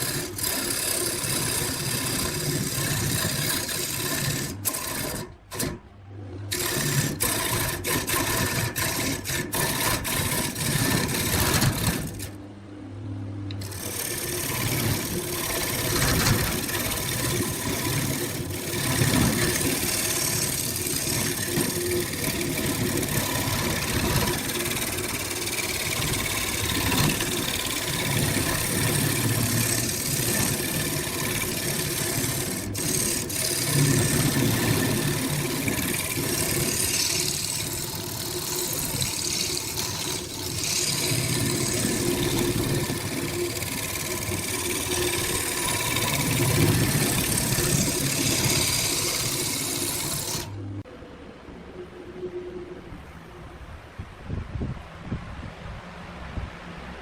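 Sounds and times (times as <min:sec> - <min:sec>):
woodworking machine running: 0:00.0 - 0:12.5, 0:13.5 - 0:50.8.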